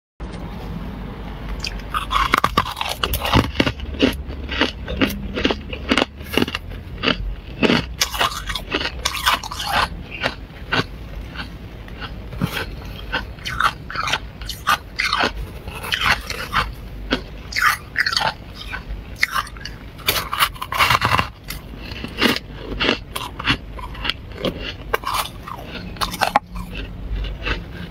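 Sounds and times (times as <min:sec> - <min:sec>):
freezer frost crunching: 0:01.6 - 0:27.9.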